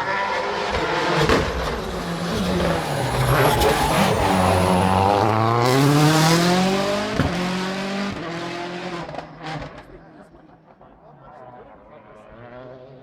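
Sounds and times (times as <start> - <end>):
rally car engine revving: 0.0 - 10.6, 12.2 - 13.0.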